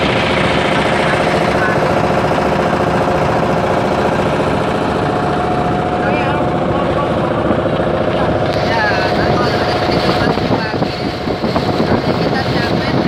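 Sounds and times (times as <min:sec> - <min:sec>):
boat engine knocking: 0:00.0 - 0:13.0.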